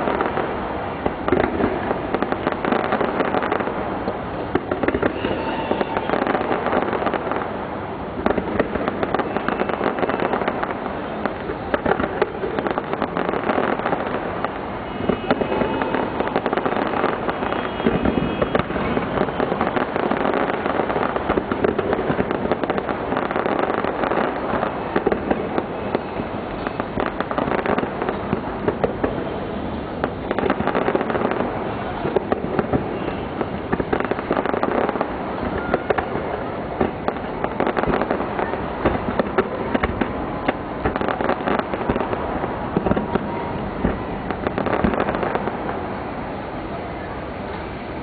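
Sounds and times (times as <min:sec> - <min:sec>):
fireworks cracks and bangs: 0:00.0 - 0:48.0
crowd voices: 0:04.2 - 0:48.0.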